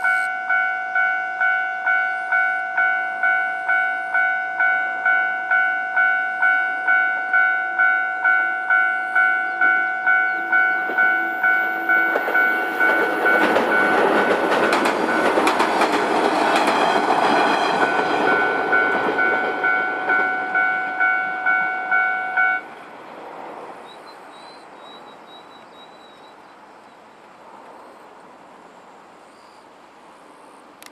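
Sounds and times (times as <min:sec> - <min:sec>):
train wheel and rail noise: 0:00.0 - 0:30.9.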